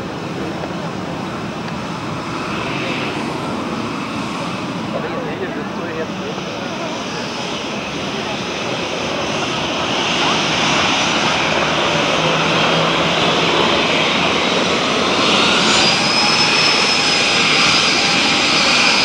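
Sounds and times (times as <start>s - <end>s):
jet engines running: 0.0s - 19.0s
thin high engine whine: 0.0s - 19.0s.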